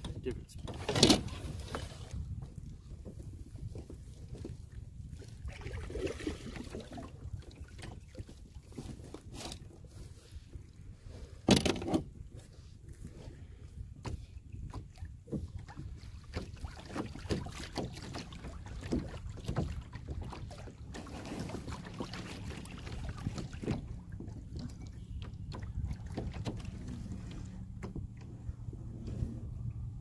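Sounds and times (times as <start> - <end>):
rope scraping and knocking on hull: 0.0 - 30.0
wind rumble on microphone: 0.0 - 30.0.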